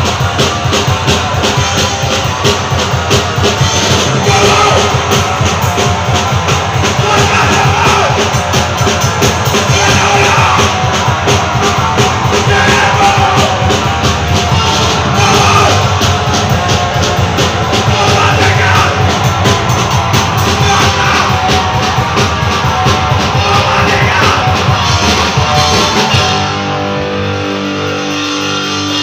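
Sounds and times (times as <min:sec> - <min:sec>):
person singing: 0:00.0 - 0:26.5
fast drumming: 0:00.0 - 0:26.6
bass guitar: 0:00.0 - 0:29.0
distorted electric guitars: 0:00.0 - 0:29.0.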